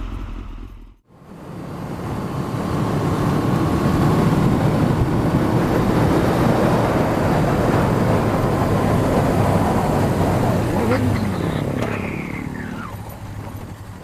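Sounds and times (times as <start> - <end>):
motorcycle engine drone: 0.0 - 14.0
rush of wind noise: 1.4 - 12.8.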